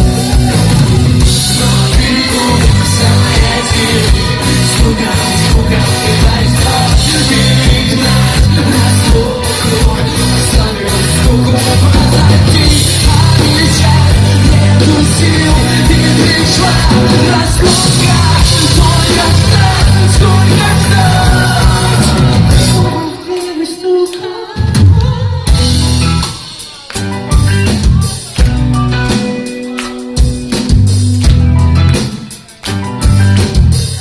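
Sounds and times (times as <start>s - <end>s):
loud rock band with singing: 0.0s - 34.0s.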